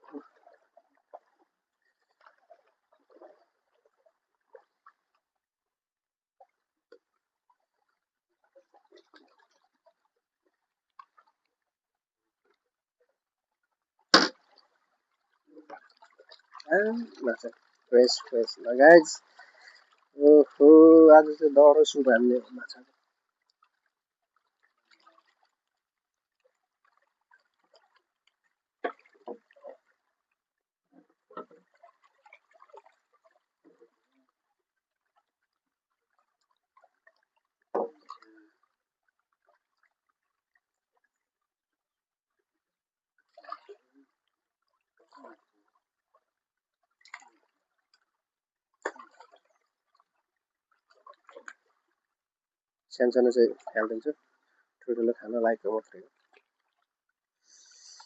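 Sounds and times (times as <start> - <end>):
water sloshing and dripping: 0.0 - 5.6, 6.3 - 20.7, 21.3 - 52.4, 53.5 - 54.9, 55.8 - 58.0.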